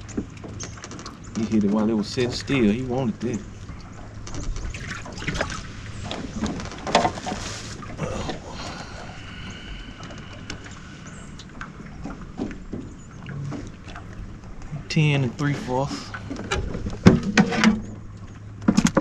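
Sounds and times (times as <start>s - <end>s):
knocks clicks and rustles in boat: 0.0s - 9.2s, 9.8s - 19.0s.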